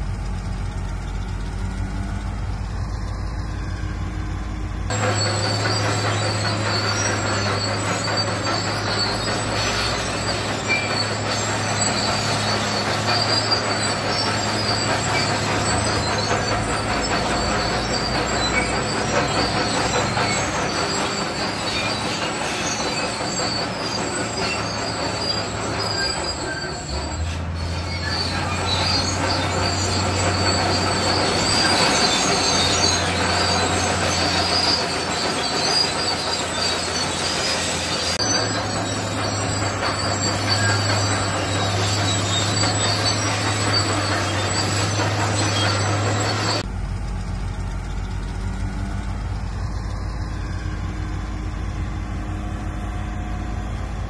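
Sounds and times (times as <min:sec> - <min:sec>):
bulldozer diesel engine: 0:00.0 - 0:54.0
steel tracks squealing and clanking: 0:00.0 - 0:54.0.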